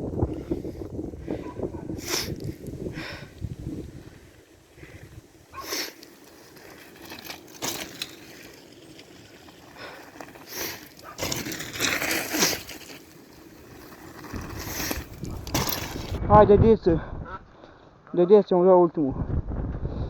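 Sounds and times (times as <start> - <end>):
snow crunching and scraping: 0.0 - 16.2.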